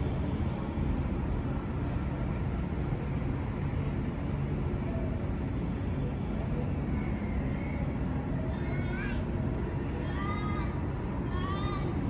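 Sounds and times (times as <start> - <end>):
train rumbling slowly: 0.0 - 12.0.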